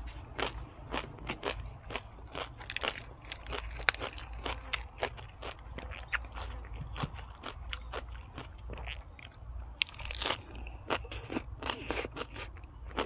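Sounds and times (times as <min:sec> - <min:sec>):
person chewing crisp food: 0:00.0 - 0:13.0.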